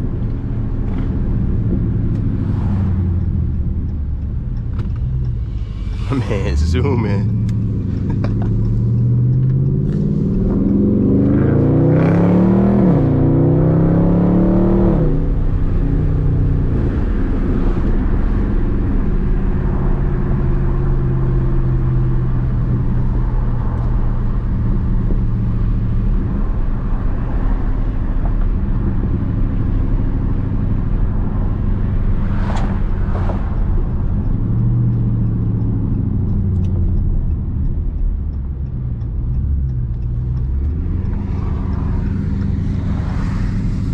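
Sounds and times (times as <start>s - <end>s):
car engine accelerating: 0.0s - 43.9s
road noise: 0.0s - 43.9s.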